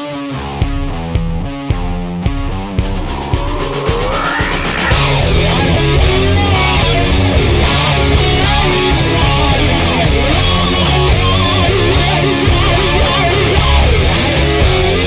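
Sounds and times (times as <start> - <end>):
distorted electric guitar: 0.0 - 15.0
heavy drum beat: 0.8 - 15.0.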